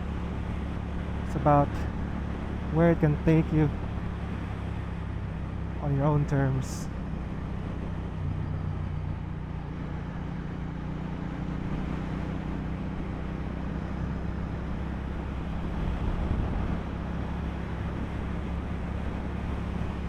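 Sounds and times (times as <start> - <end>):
motorcycle engine cruising: 0.0 - 20.0
road and wind noise: 0.0 - 20.0.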